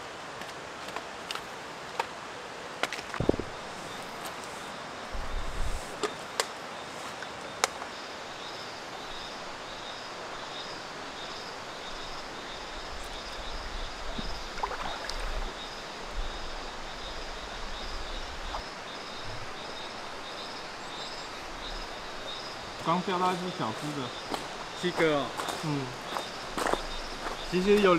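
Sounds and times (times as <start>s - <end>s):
stream water flowing: 0.0s - 27.9s
insects chirping: 1.0s - 27.9s.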